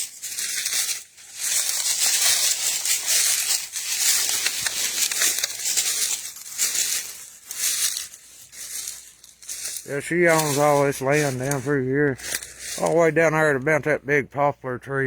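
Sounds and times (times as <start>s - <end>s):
footsteps on dry leaves: 0.0s - 13.9s.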